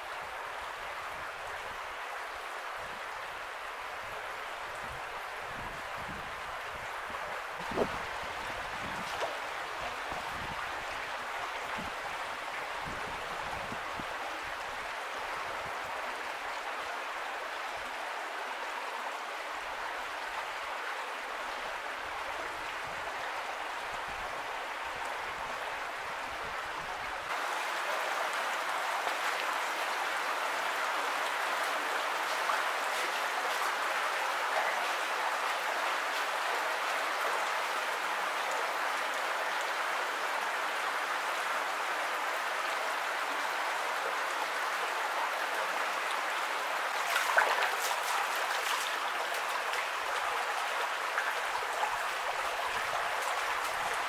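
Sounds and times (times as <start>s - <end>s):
creek running over rocks: 0.0s - 54.0s.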